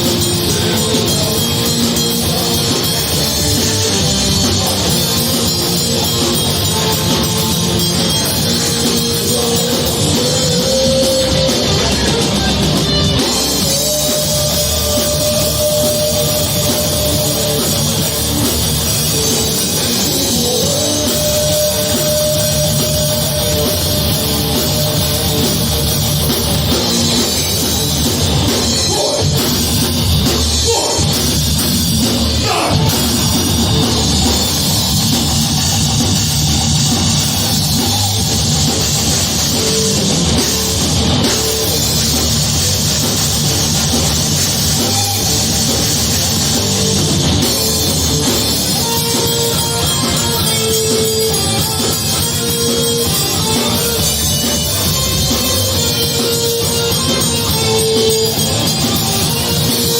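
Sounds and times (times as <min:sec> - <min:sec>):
distorted guitars: 0:00.0 - 0:59.9
pounding drum kit: 0:00.0 - 0:59.9.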